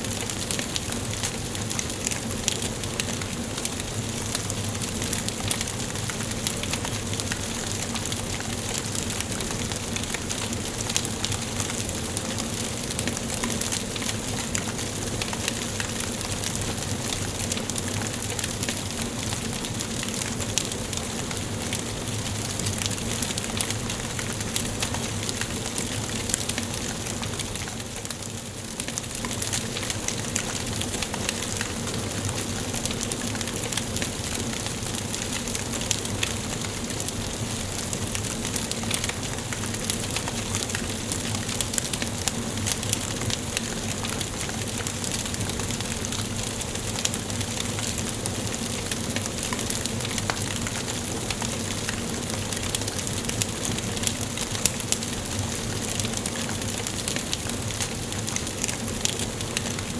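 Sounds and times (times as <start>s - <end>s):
wood fire hissing: 0.0s - 59.9s
logs crackling and popping: 0.1s - 59.9s.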